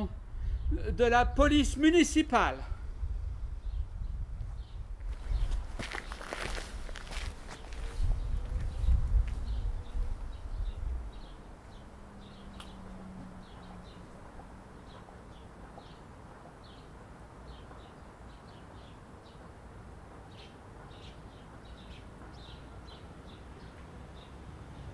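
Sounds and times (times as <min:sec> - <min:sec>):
faint outdoor background: 0:00.0 - 0:24.9
small birds chirping: 0:03.6 - 0:19.6, 0:20.2 - 0:24.9.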